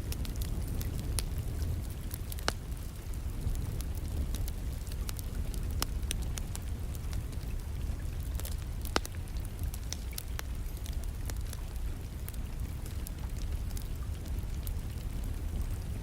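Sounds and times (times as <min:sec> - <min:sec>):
rain: 0:00.0 - 0:16.0
wood fire crackling: 0:00.0 - 0:16.0.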